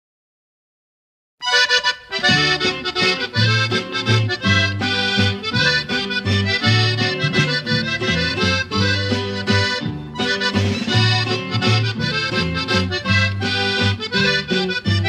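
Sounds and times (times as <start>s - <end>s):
accordion melody: 1.4s - 15.0s
bouncing bass line: 2.2s - 15.0s.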